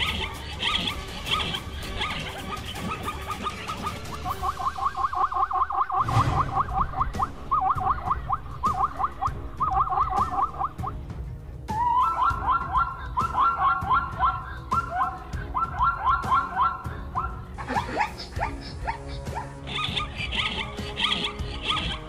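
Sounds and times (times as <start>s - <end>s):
zebras barking alarm calls: 0.0s - 11.0s, 11.8s - 22.0s.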